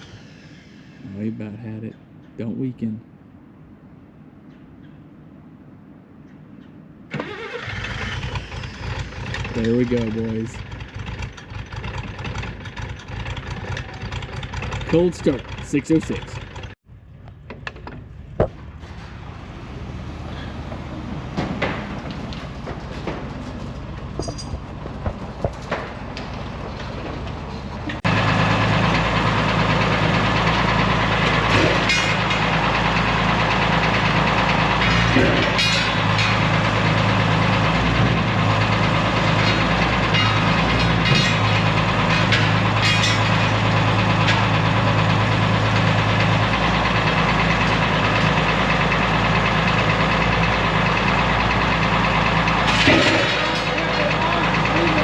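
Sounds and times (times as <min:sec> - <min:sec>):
tractor engine running: 0:07.1 - 0:55.0.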